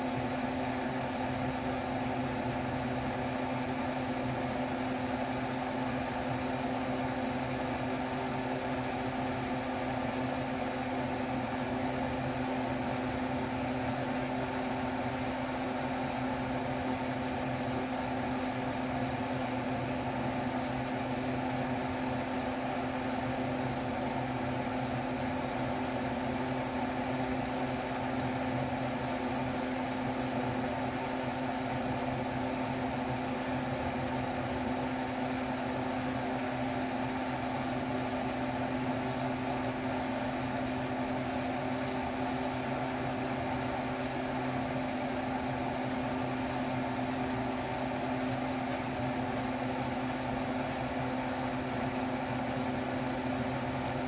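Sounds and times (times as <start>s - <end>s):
fan motor whirring: 0.0s - 54.0s.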